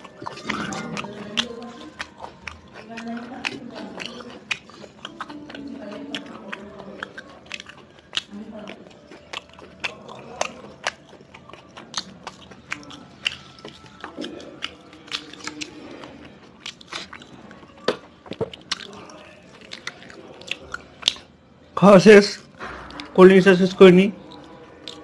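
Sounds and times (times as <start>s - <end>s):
person chewing and crunching food: 0.0s - 25.0s.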